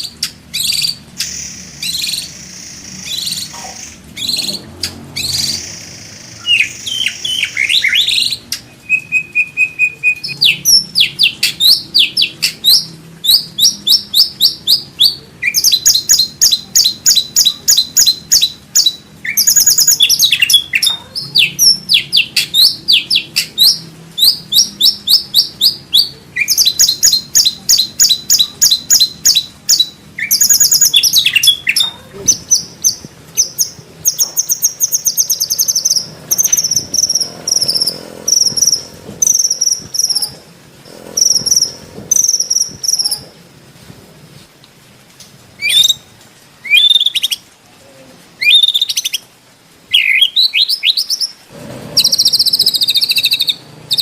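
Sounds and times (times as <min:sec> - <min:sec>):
songbird whistles and trills: 0:00.2 - 0:40.4, 0:45.6 - 0:47.4, 0:48.4 - 0:49.2, 0:49.9 - 0:51.4.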